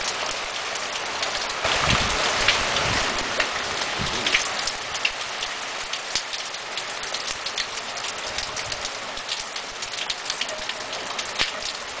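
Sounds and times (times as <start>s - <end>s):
heavy rain on stone path: 0.0s - 12.0s.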